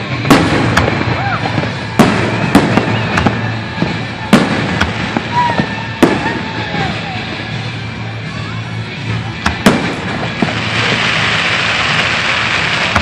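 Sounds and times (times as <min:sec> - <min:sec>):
fireworks bangs: 0:00.0 - 0:08.0, 0:09.0 - 0:13.0.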